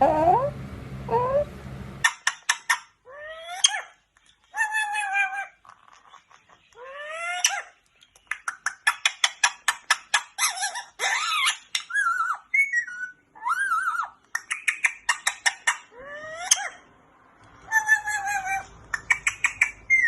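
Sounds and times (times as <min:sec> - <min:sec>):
parrot calling: 0:00.0 - 0:16.9, 0:17.6 - 0:20.0.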